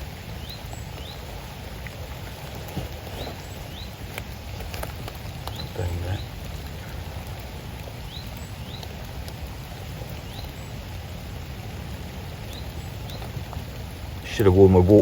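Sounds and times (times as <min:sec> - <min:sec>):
rain dripping and pattering: 0:00.0 - 0:15.0.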